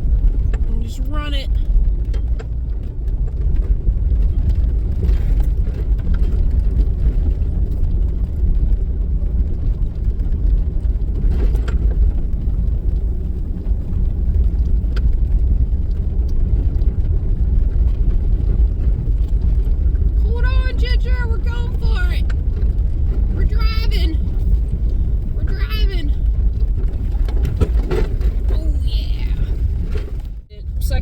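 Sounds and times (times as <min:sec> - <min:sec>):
engine and tyres rumbling in snow: 0:00.0 - 0:31.0.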